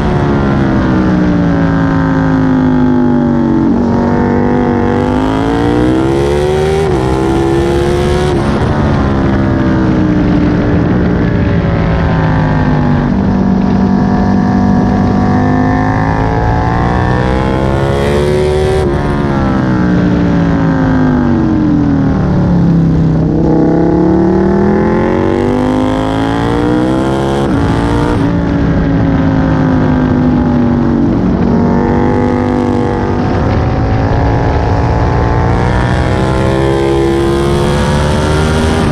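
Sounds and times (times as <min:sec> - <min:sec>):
motorcycle engine revving: 0:00.0 - 0:38.9
wind rush: 0:00.0 - 0:38.9.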